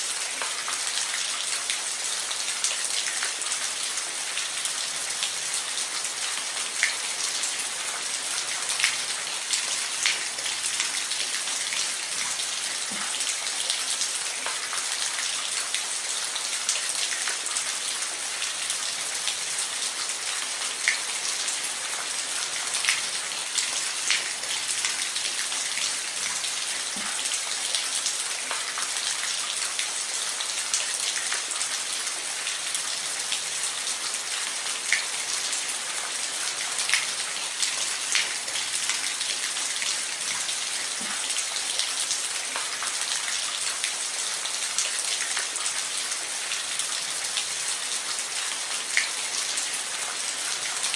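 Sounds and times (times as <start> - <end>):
rain on a roof: 0.0 - 50.9.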